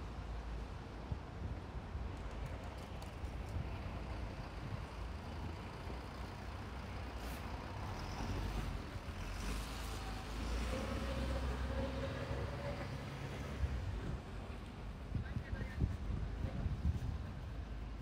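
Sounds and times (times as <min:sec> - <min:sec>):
city street noise: 0:00.0 - 0:18.0.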